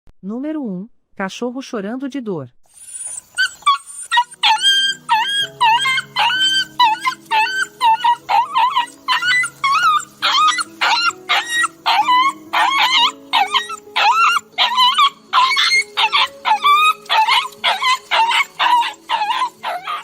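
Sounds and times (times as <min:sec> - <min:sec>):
dog yelping: 0:02.8 - 0:20.0.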